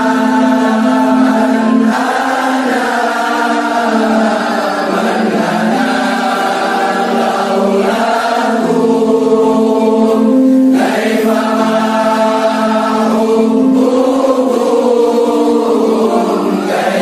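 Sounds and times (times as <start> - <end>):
choir singing held notes: 0.0 - 17.0.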